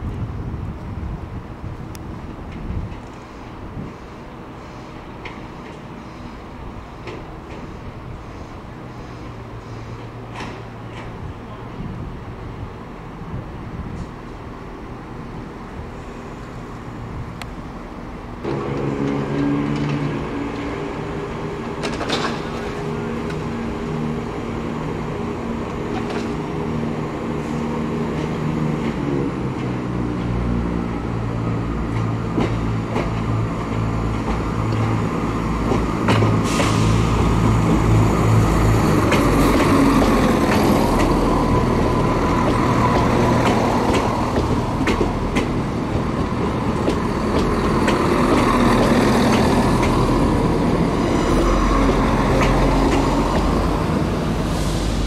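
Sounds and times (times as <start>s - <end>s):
train wheel noise: 0.0s - 55.0s
diesel train engines revving: 0.2s - 55.0s.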